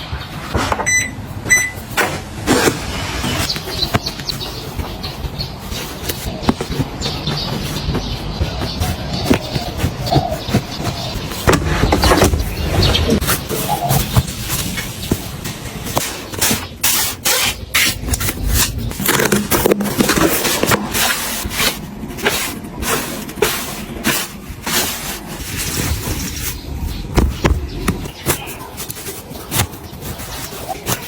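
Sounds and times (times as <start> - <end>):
household items knocking and scraping: 1.6 - 31.0.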